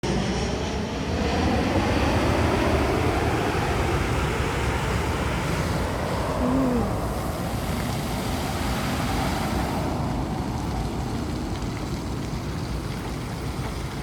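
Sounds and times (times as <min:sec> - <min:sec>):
jet airliner flying overhead: 0:00.0 - 0:12.1.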